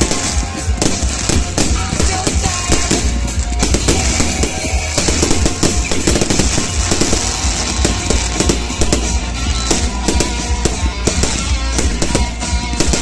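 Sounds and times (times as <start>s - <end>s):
fireworks cracking and banging: 0.0s - 13.0s
loud music: 0.0s - 13.0s.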